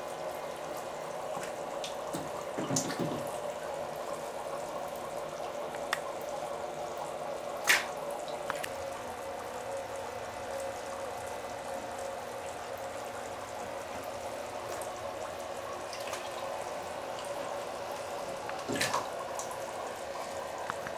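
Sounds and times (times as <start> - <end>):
faint steady hum: 0.0 - 20.9
water trickling and dripping: 0.0 - 20.9.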